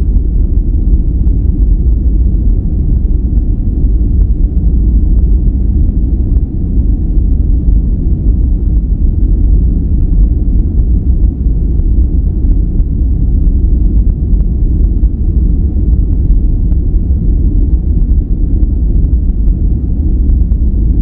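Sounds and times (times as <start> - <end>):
deep even noise rumble: 0.0 - 21.0.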